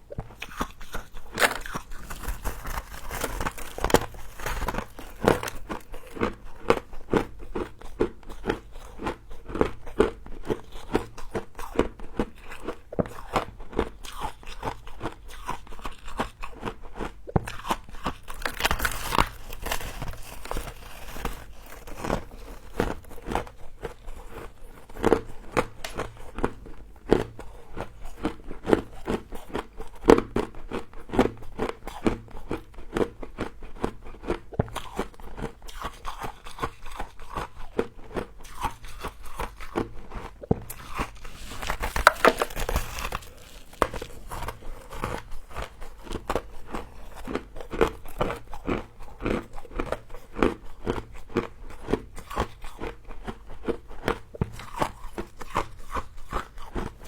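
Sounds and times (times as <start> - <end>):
crunching and chewing frost: 0.0 - 57.0.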